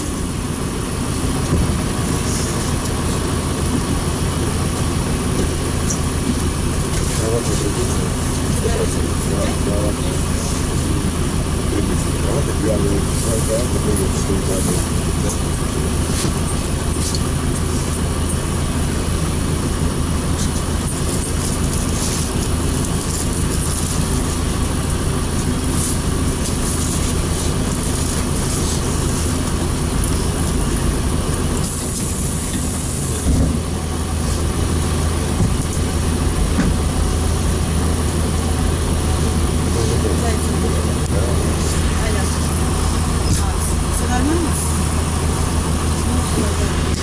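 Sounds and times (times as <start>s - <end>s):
bus engine idling: 0.0s - 47.0s.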